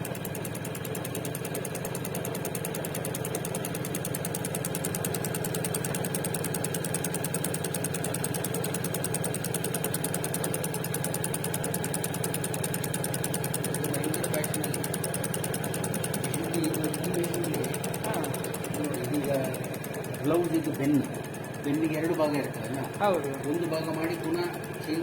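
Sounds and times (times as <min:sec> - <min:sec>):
embroidery machine stitching: 0:00.0 - 0:25.0.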